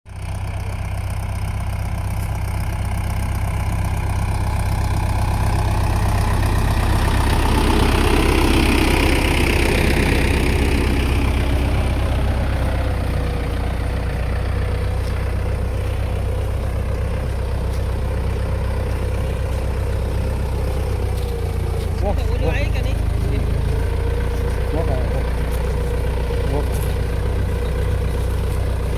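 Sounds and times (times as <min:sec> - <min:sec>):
tractor engine running: 0:00.1 - 0:28.9.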